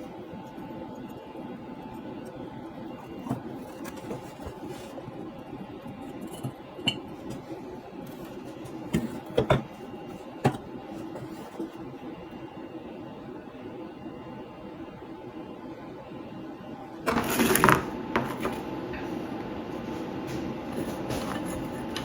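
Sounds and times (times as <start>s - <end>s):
steady running hum: 0.0s - 22.0s.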